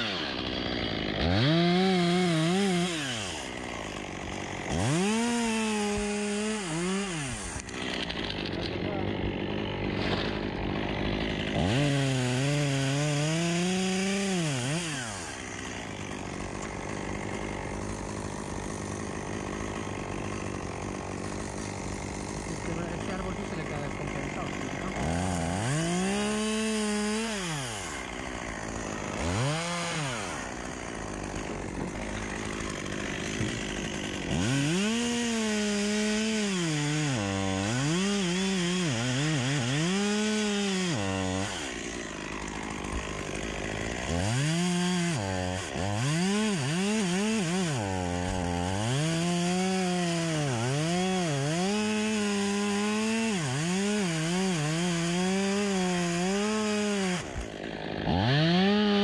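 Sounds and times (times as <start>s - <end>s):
chainsaw revving and cutting wood: 0.0s - 59.0s.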